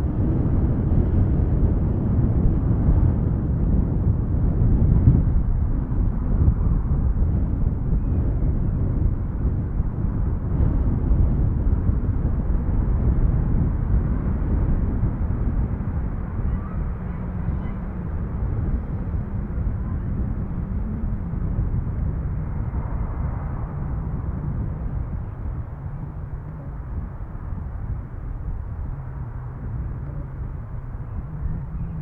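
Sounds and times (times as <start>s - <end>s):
aircraft engines rumbling: 0.0s - 32.0s.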